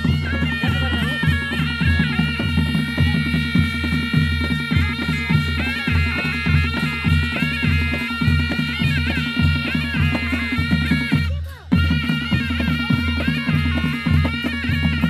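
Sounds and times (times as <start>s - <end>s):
reedy shawm melody: 0.0s - 15.0s
steady drum beat: 0.0s - 15.0s.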